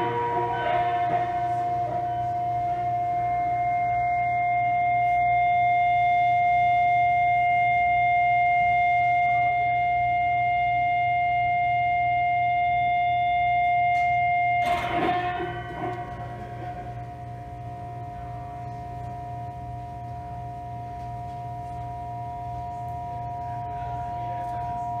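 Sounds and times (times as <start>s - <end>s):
droning tone: 0.0s - 25.0s.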